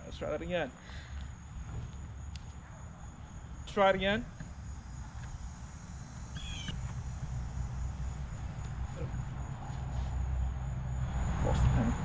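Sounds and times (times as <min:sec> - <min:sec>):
insect trilling: 0:00.8 - 0:12.0.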